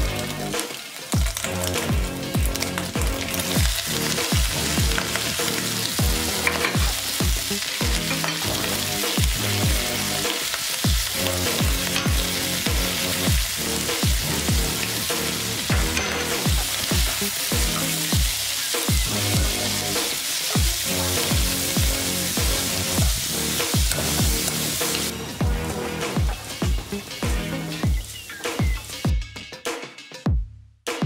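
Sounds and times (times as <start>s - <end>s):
bacon sizzling in a frying pan: 0.0s - 29.1s
background music with low beat: 0.0s - 31.0s.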